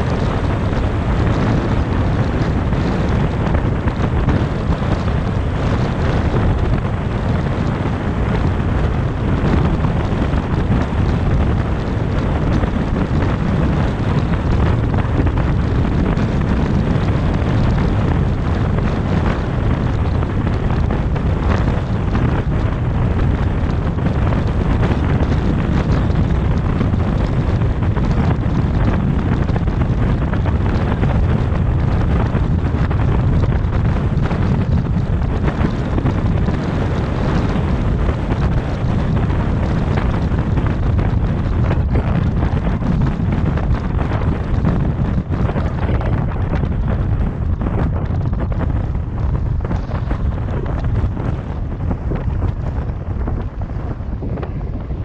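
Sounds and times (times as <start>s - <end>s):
car wind and tyre noise: 0.0s - 55.0s
wind buffeting microphone: 0.0s - 55.0s.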